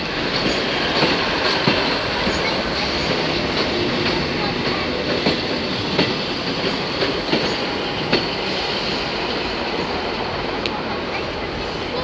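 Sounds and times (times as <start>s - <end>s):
train rolling rumble: 0.0s - 12.0s
wheels clicking over rail joints: 0.0s - 12.0s.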